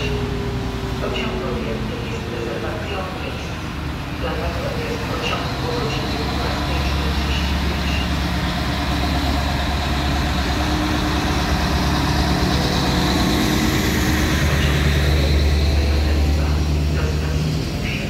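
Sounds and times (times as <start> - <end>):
diesel locomotive engine humming: 0.0 - 18.0.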